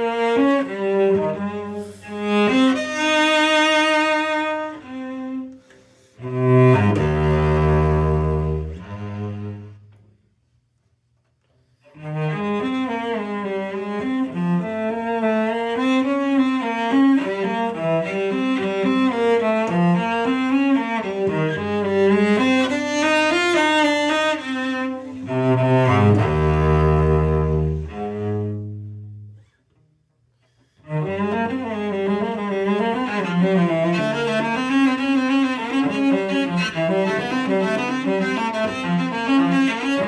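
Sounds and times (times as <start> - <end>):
bowed cello: 0.0 - 10.4, 11.7 - 29.8, 30.4 - 40.0.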